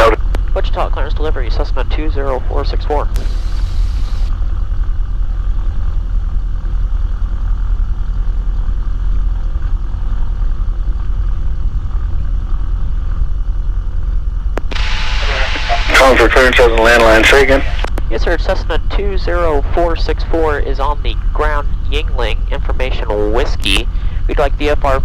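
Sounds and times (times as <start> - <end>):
airplane engine idling: 0.0 - 25.0.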